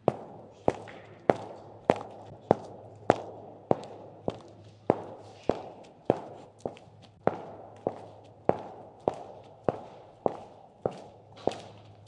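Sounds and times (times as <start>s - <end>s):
high heels clicking on floor: 0.0s - 12.0s.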